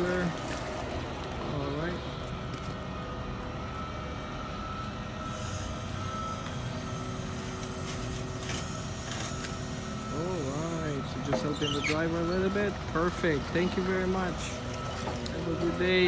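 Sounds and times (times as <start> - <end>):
vehicle engine running with whine: 0.0 - 16.0.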